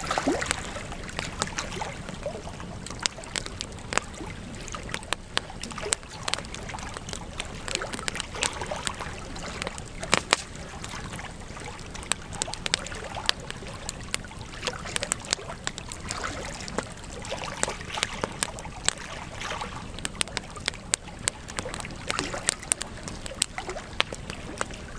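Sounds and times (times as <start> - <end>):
campfire pops and snaps: 0.0 - 24.9
low hiss of fire: 0.0 - 24.9.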